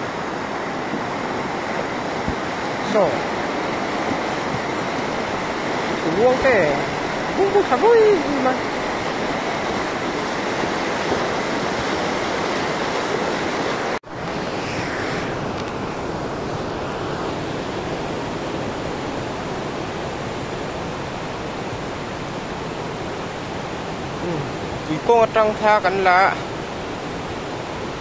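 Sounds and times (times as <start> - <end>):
fast river water rushing: 0.0 - 28.0.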